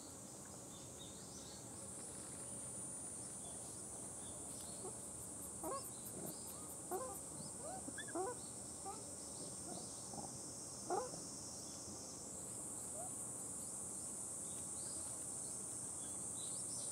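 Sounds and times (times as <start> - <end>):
high drone of insects: 0.0 - 16.9.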